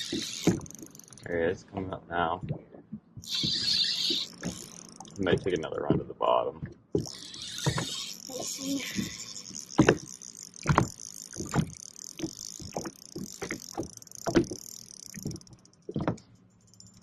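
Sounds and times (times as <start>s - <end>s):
knocks and thumps of gear: 0.0s - 1.3s, 2.4s - 8.0s, 9.0s - 17.0s.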